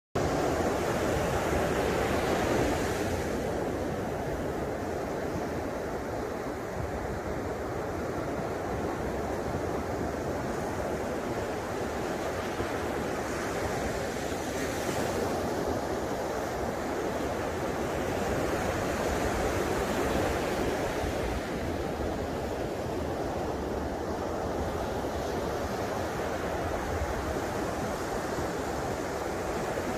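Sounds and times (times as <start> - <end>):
ocean surf breaking on beach: 0.2 - 29.9.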